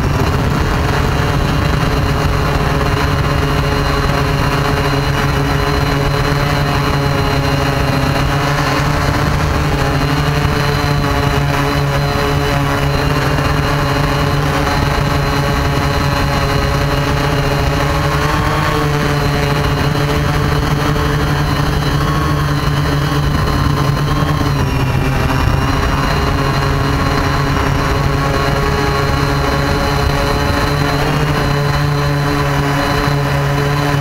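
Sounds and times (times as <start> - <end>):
drone motors humming: 0.0 - 34.0.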